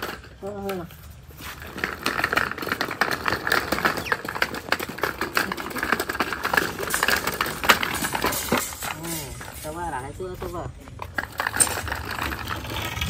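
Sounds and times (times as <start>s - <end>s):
cart wheels rattling on tiles: 0.0s - 13.0s.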